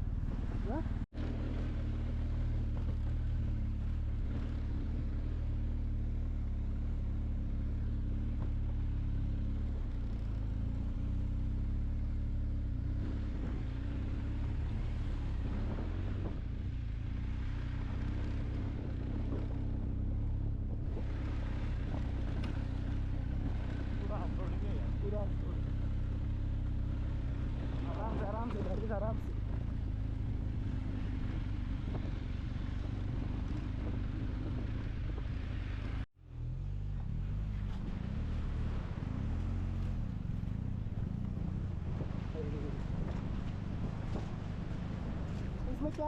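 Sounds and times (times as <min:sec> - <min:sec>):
motorcycle engine running: 0:00.0 - 0:46.0
road and wind noise: 0:00.0 - 0:46.0.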